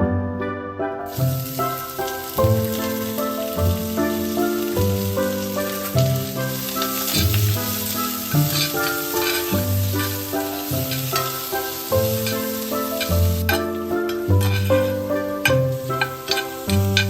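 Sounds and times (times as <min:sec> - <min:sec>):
instrumental background music: 0:00.0 - 0:17.0
food sizzling in frying pan: 0:01.1 - 0:17.0.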